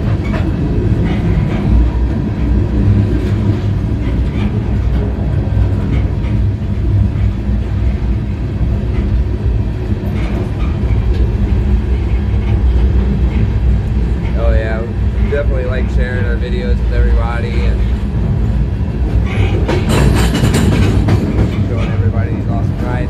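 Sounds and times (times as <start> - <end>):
steel wheels rumbling on rail: 0.0 - 23.0.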